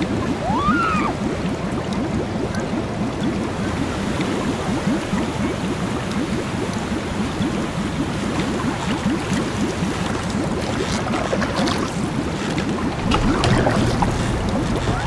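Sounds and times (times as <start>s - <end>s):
shallow water gurgling and lapping: 0.0s - 15.0s.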